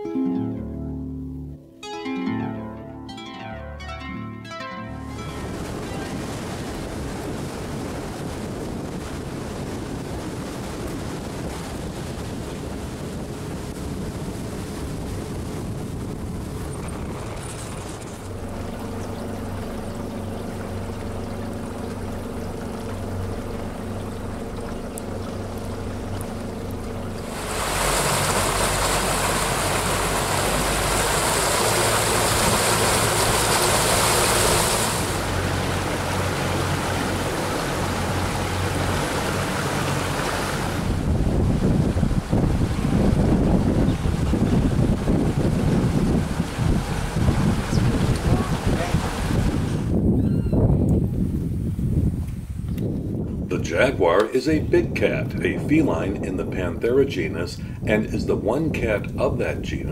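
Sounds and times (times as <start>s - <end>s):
boat motor humming: 2.5s - 59.8s
water rushing past hull: 4.9s - 52.6s, 53.2s - 59.4s
wind buffeting microphone: 5.3s - 59.9s.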